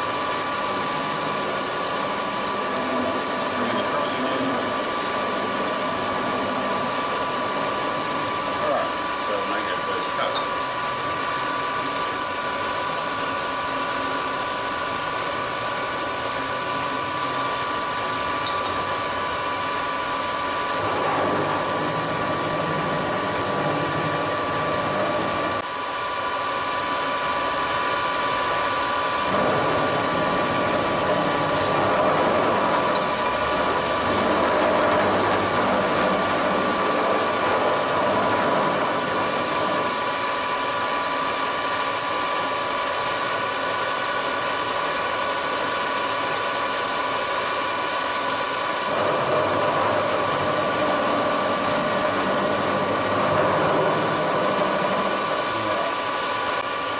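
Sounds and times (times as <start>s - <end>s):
end mill cutting aluminium: 0.0s - 25.7s, 26.8s - 56.9s
milling machine whine: 0.0s - 56.9s.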